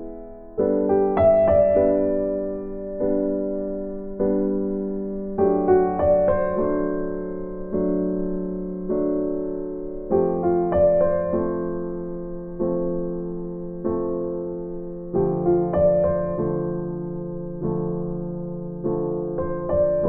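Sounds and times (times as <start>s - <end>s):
electric piano chords: 0.0s - 20.0s.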